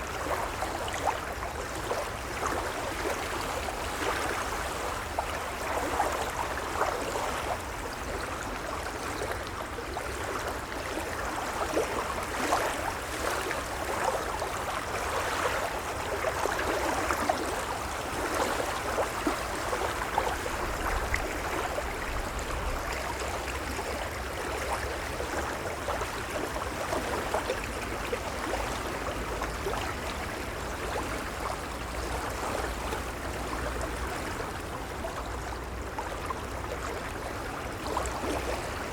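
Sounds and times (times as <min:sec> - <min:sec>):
gentle waves washing: 0:00.0 - 0:38.9.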